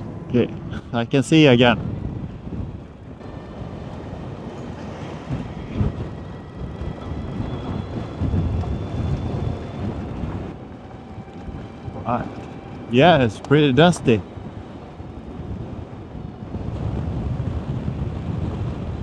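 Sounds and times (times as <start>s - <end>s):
loud bumps: 0.0s - 16.5s
tyres crunching over gravel: 0.0s - 16.6s
faint high whine: 0.0s - 17.8s
wind buffeting microphone: 0.0s - 19.0s.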